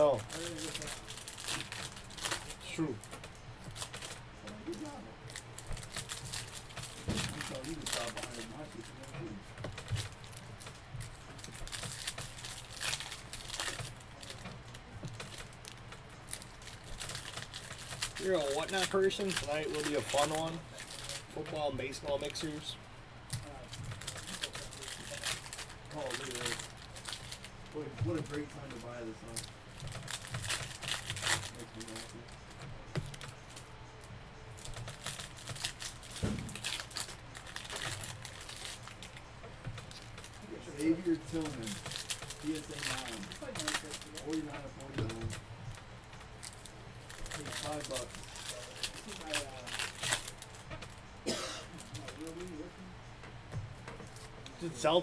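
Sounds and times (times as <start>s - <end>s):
card packs crinkling and rustling: 0.0s - 55.0s.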